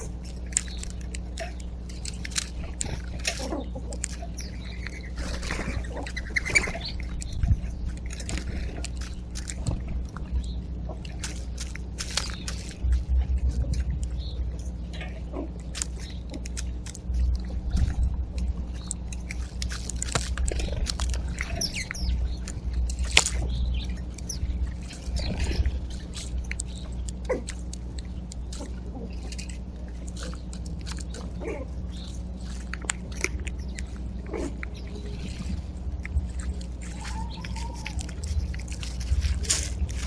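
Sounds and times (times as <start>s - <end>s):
birds chirping: 0.0s - 40.0s
steady low rumble: 0.0s - 40.0s.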